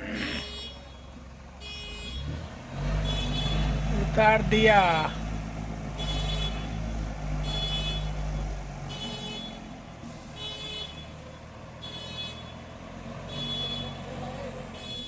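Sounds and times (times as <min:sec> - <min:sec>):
heavy machine engine rumbling: 0:00.0 - 0:15.0.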